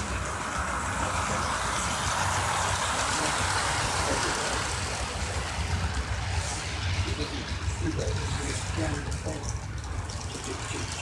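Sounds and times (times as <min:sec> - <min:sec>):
model train motor whirring: 0:00.0 - 0:11.0
wheels rumbling on rail: 0:00.0 - 0:11.0.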